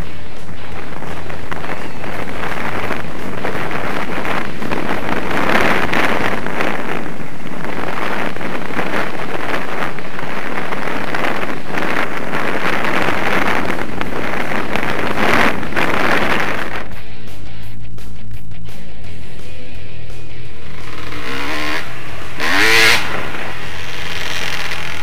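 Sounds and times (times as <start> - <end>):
wind rushing over microphone: 0.0 - 17.6, 19.8 - 25.0
vehicle engine running: 0.0 - 25.0.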